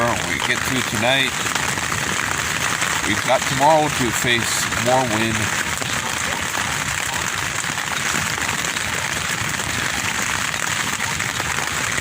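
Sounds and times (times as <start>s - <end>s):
wind shaking tent fabric: 0.0s - 12.0s.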